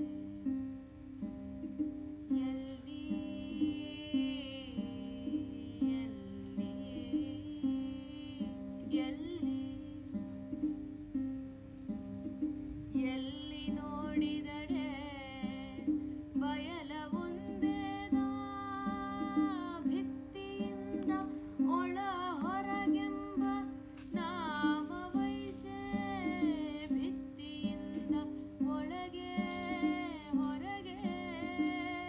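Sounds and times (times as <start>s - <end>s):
woman singing: 0.0s - 0.6s, 2.2s - 10.8s, 12.9s - 32.0s
plucked string instrument drone: 0.0s - 32.0s.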